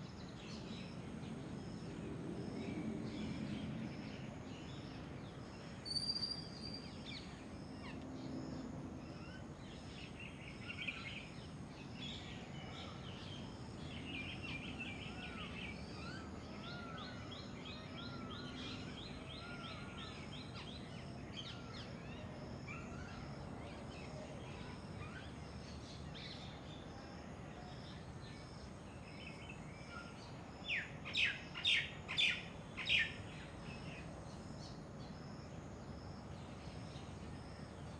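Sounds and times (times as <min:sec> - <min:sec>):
small birds chirping and trilling: 0:00.0 - 0:27.1, 0:27.7 - 0:37.9
background hiss: 0:00.0 - 0:37.9.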